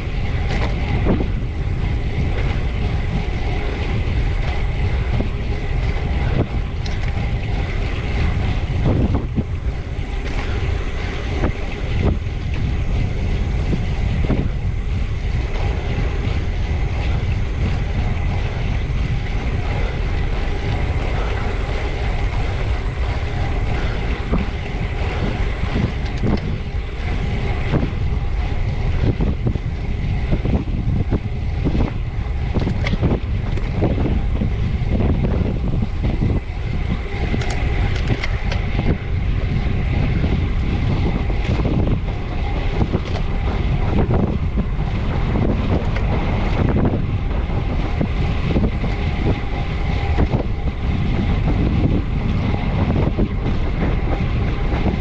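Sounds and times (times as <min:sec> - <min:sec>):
low rumble: 0:00.0 - 0:55.0
wind rushing over microphone: 0:00.0 - 0:55.0.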